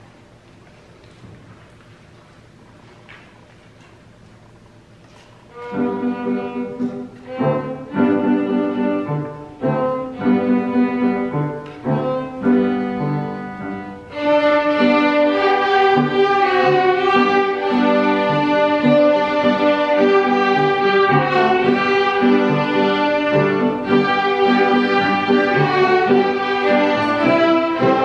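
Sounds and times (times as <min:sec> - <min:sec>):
children's violins playing a tune: 0:05.5 - 0:28.0.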